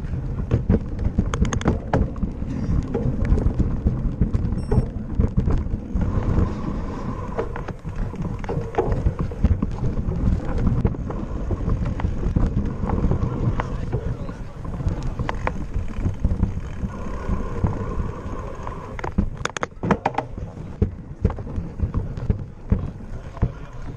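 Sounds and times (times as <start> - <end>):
bike rattling over rough trail: 0.0 - 23.9
wind buffeting microphone: 0.0 - 23.9.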